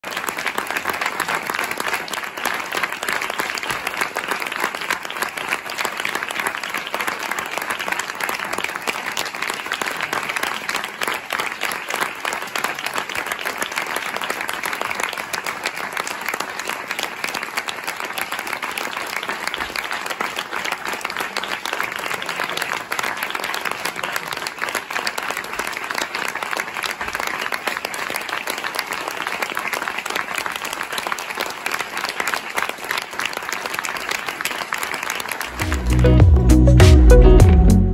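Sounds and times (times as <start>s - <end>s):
audience clapping: 0.0s - 37.9s.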